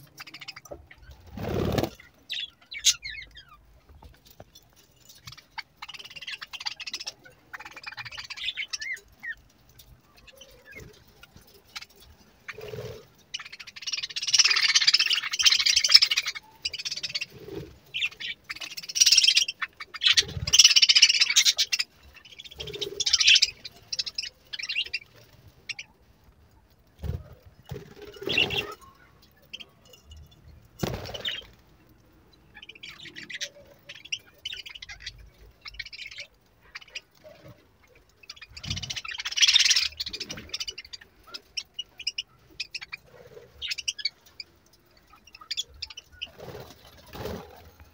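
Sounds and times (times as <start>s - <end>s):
budgerigars chattering and warbling: 0.0s - 3.6s, 5.1s - 9.4s, 10.1s - 25.9s, 27.0s - 31.5s, 32.5s - 47.9s.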